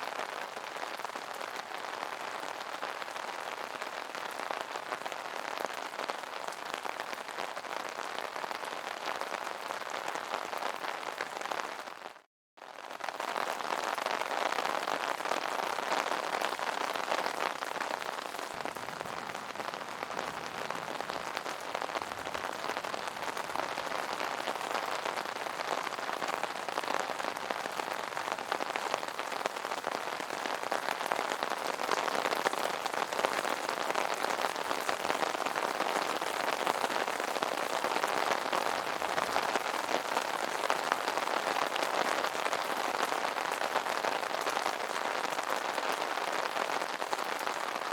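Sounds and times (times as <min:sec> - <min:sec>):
rain on an umbrella: 0:00.0 - 0:47.9.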